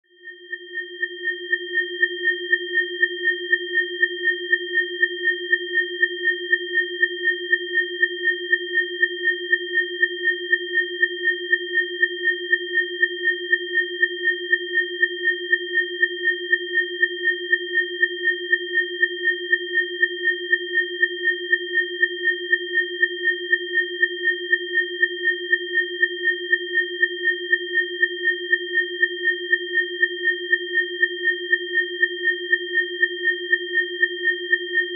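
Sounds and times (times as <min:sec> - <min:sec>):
pulsing sine tones: 0:00.3 - 0:34.9.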